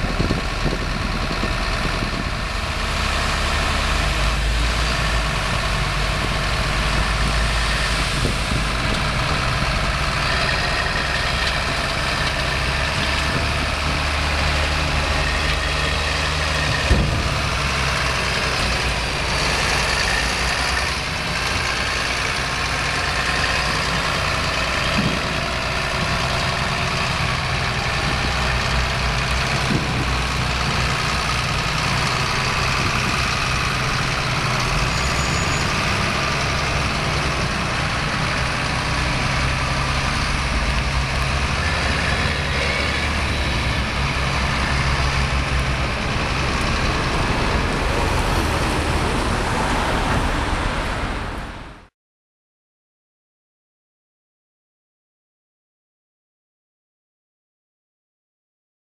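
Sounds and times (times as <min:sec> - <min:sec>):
heavy diesel engines running: 0:00.0 - 0:51.9.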